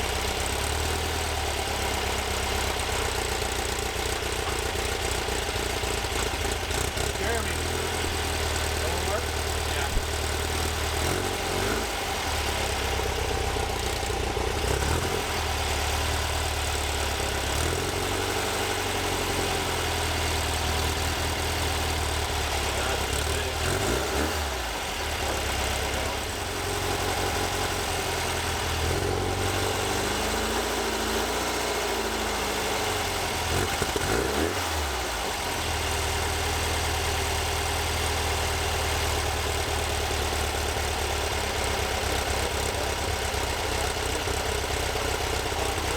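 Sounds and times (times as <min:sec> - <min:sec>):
air-cooled engine running: 0:00.0 - 0:45.9.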